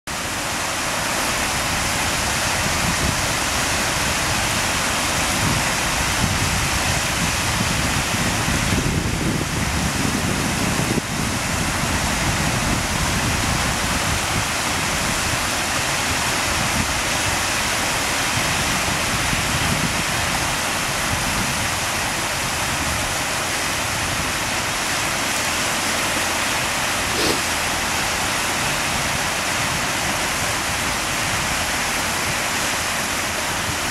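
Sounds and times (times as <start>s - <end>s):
small waves breaking on shore: 0.1s - 9.0s, 9.6s - 33.9s.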